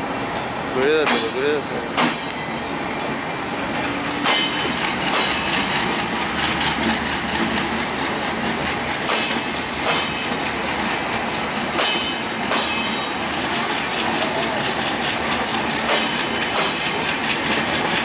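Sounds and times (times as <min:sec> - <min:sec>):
train wheels rumbling: 0:00.0 - 0:18.0
wheels clacking over rail joints: 0:00.8 - 0:03.1, 0:03.7 - 0:18.0.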